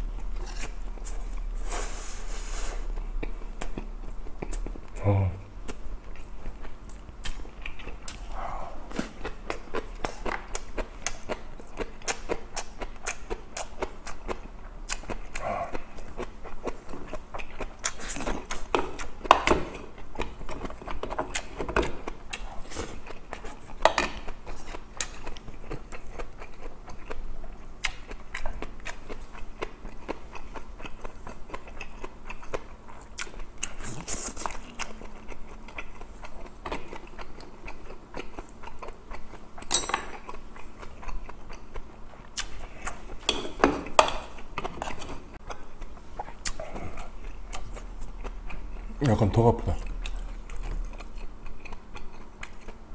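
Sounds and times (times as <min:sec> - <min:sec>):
chewing and biting: 0:02.8 - 0:05.0, 0:05.6 - 0:52.9.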